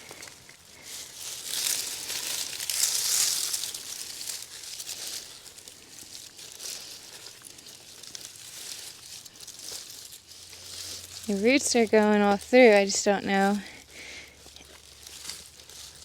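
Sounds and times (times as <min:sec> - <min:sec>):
digging soil scraping: 0:00.0 - 0:16.0.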